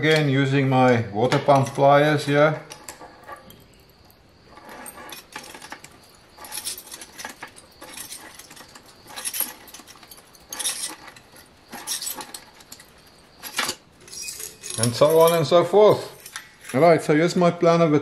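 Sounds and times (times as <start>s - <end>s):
steel pipe and pliers clinking: 1.3s - 16.8s.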